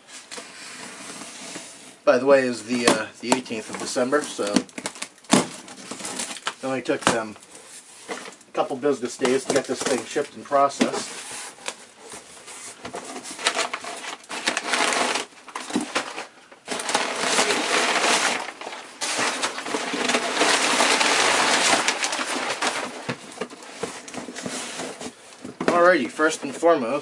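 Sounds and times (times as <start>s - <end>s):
packing paper crinkling: 3.3s - 27.0s.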